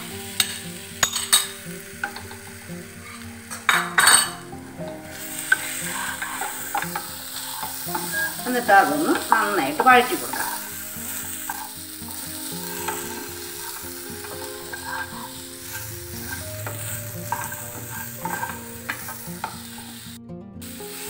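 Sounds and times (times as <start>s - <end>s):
food sizzling in a pan: 0.0s - 21.0s
soft background music: 0.0s - 21.0s
spatula scraping a pan: 0.2s - 20.2s.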